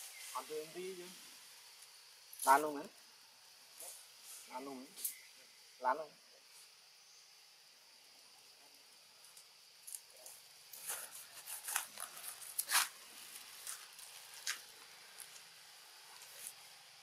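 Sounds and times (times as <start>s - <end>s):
leaves and twigs rustling: 0.0s - 5.8s, 8.9s - 17.0s.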